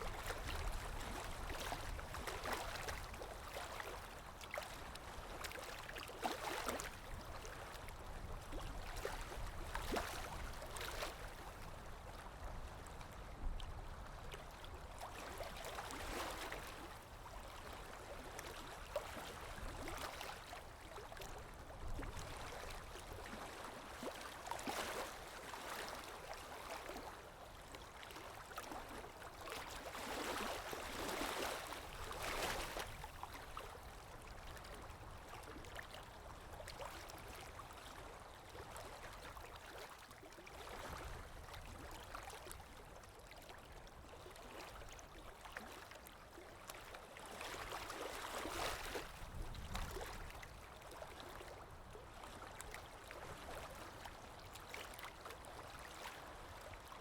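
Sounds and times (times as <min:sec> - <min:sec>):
water lapping: 0:00.0 - 0:13.0, 0:13.7 - 0:57.0
wind: 0:00.0 - 0:57.0.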